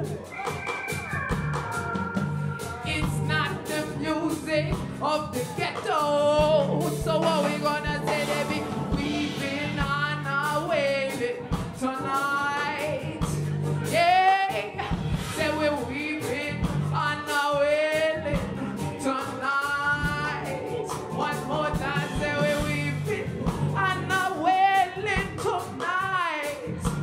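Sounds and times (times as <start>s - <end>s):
live band playing: 0.0s - 27.0s
woman singing long notes: 2.6s - 26.9s.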